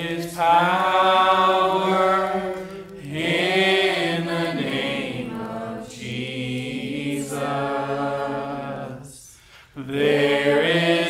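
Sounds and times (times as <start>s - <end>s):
voices singing worship song: 0.0s - 11.0s.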